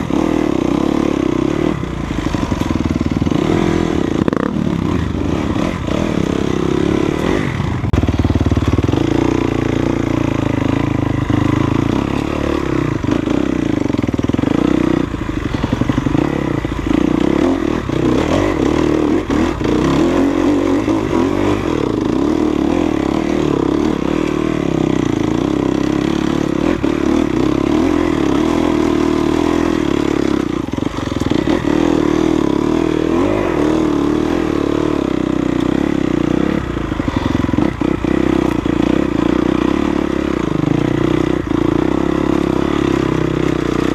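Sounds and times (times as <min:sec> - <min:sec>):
dirt bike engine running: 0:00.0 - 0:43.9.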